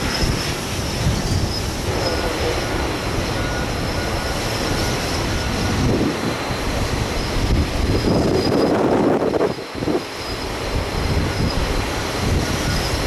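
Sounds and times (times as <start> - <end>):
gusty wind on microphone: 0.0 - 13.0
jet engines rumbling: 0.0 - 13.0.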